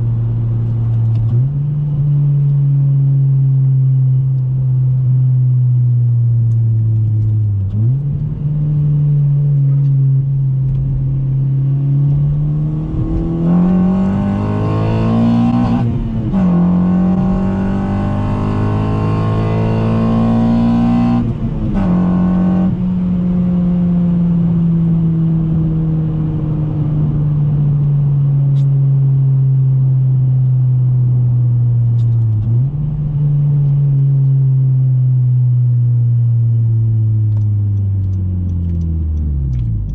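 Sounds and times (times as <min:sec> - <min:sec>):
car engine revving while driving: 0:00.0 - 0:39.9.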